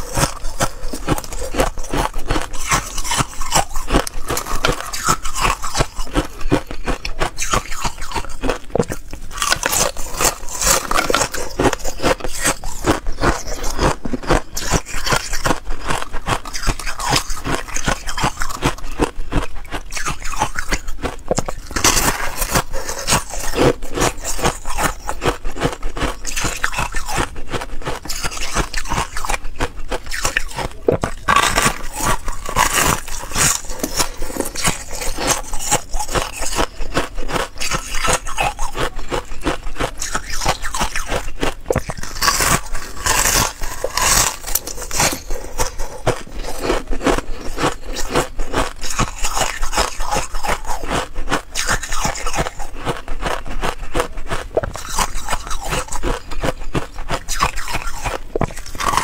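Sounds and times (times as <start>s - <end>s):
ice crunching while chewed: 0.0s - 59.0s.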